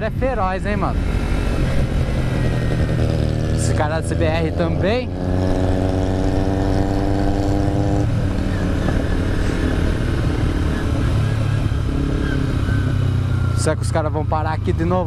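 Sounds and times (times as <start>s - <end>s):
wind rumble on microphone: 0.0s - 13.6s
motorcycle engine cruising: 0.0s - 15.0s
road noise: 0.0s - 15.0s.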